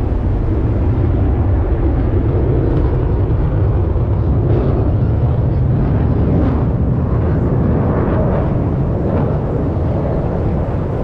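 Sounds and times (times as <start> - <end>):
jet engine roaring overhead: 0.0 - 11.0.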